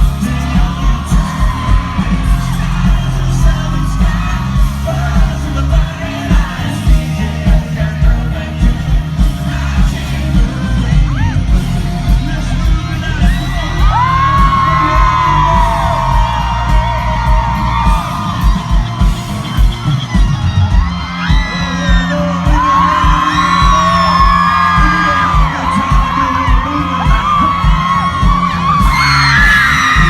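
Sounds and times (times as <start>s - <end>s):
country band playing loud: 0.0s - 30.0s
crowd cheering and singing along: 0.0s - 30.0s.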